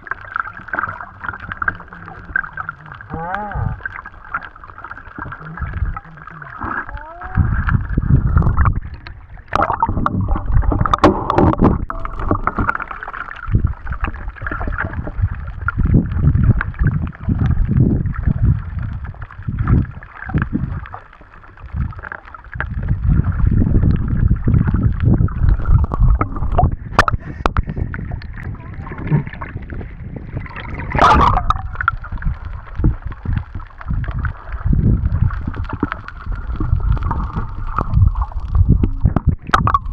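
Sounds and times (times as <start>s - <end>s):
water rushing burst: 0.0s - 18.6s, 23.0s - 39.9s
muffled underwater rumbling: 0.0s - 39.9s
underwater clicks and swishes: 0.0s - 39.9s.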